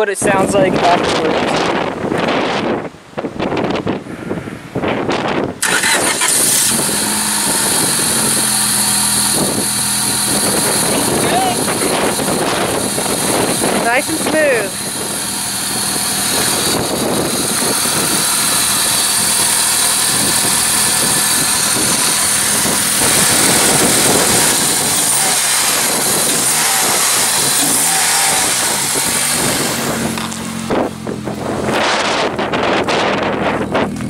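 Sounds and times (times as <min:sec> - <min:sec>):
car engine running: 0:05.6 - 0:34.0.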